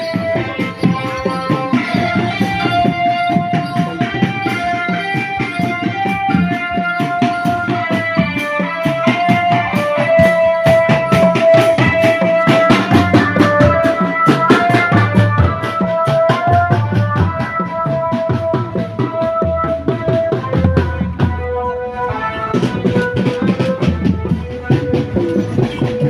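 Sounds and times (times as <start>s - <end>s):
sustained melody of held notes: 0.0s - 26.0s.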